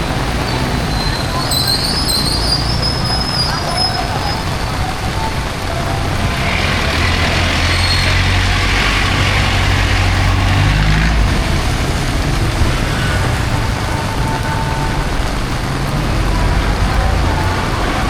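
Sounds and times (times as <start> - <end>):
heavy vehicle engine drone: 0.0 - 18.0
steady rain: 0.0 - 18.0
tyres hissing through water: 0.0 - 18.0.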